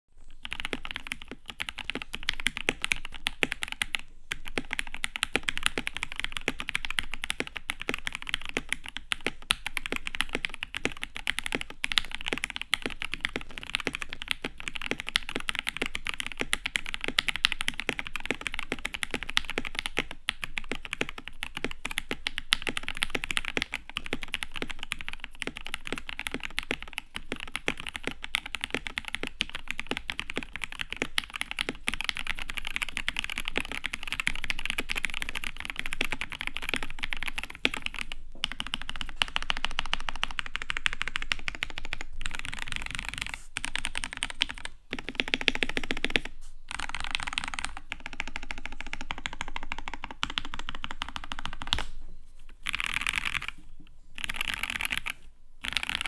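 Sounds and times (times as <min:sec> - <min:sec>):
mechanical keyboard typing: 0:00.4 - 0:51.9, 0:52.6 - 0:53.6, 0:54.2 - 0:56.0.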